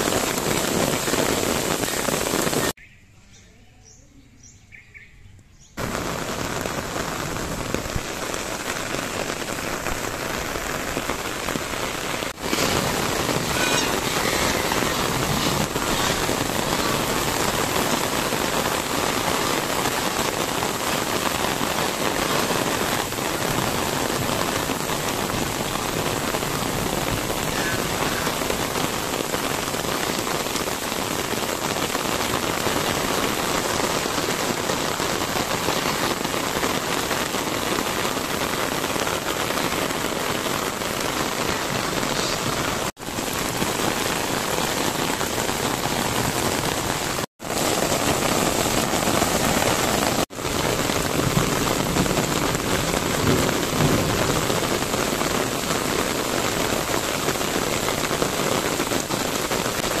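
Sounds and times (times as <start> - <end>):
steady rain: 0.0 - 2.8, 5.8 - 60.0.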